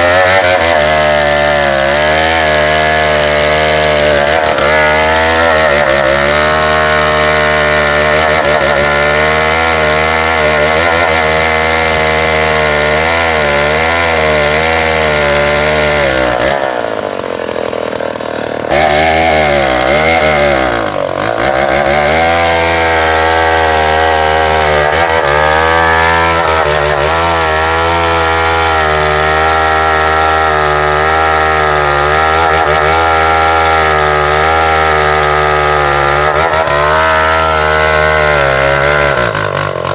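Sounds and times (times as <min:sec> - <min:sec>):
chainsaw cutting hardwood: 0:00.0 - 0:39.9.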